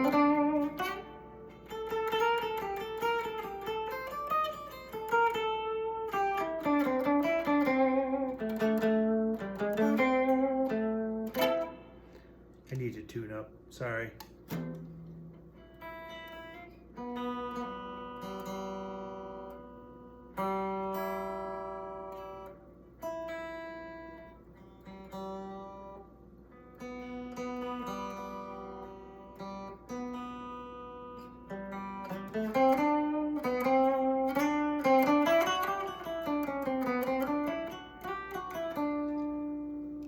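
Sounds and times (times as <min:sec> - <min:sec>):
electric guitar strings plucked: 0:00.0 - 0:12.3, 0:14.0 - 0:40.0.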